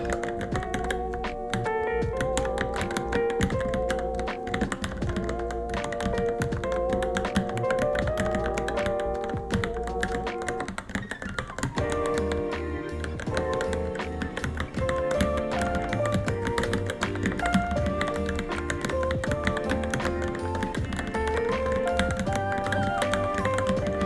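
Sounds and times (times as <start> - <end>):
background music: 0.0 - 24.0
mechanical keyboard typing: 0.0 - 24.0.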